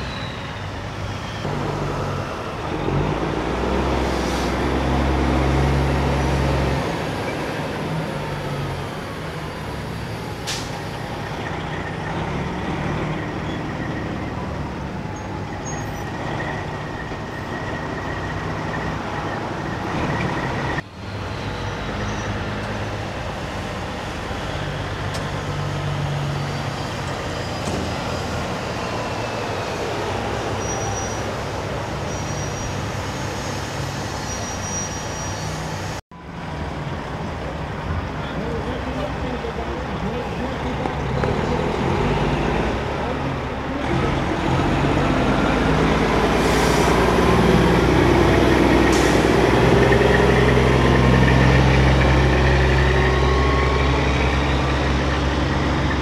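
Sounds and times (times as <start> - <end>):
diesel truck engines: 0.0 - 56.0
traffic noise: 0.0 - 56.0.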